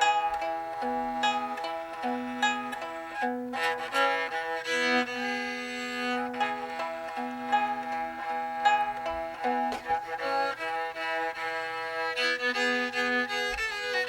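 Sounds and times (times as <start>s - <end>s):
fiddle playing quick melody: 0.0s - 14.0s
fiddle string drone: 0.0s - 14.0s.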